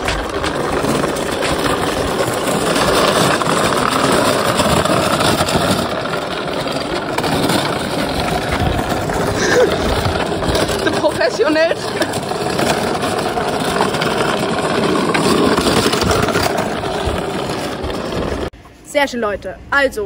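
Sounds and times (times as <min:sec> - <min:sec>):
hard wheels rumbling over asphalt: 0:00.0 - 0:18.6.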